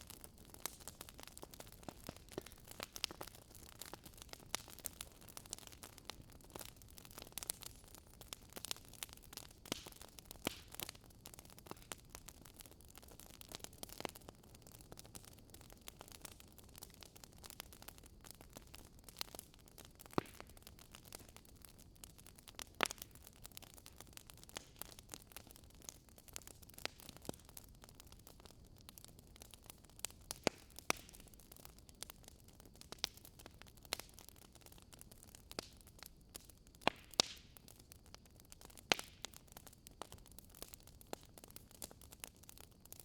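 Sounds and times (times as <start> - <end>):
sharp snaps of fire: 0.0 - 43.0
wood fire crackling: 0.0 - 43.0.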